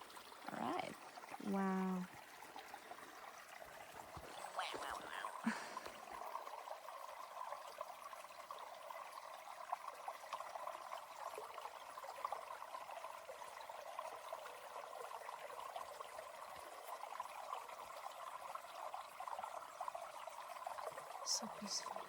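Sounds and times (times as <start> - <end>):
stream water trickling: 0.0 - 22.0.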